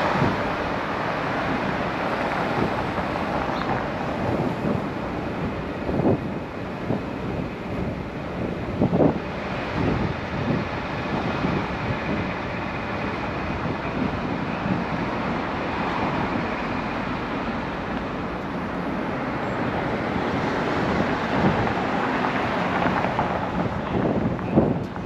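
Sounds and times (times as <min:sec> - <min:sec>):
cars passing: 0:00.0 - 0:25.0
wind rumbling on microphone: 0:00.0 - 0:25.0.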